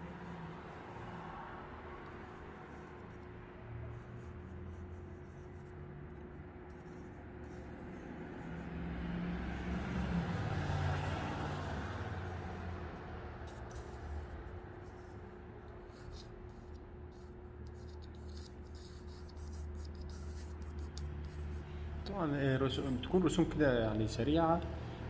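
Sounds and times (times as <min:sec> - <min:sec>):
pencil scratching on paper: 0:00.0 - 0:21.8.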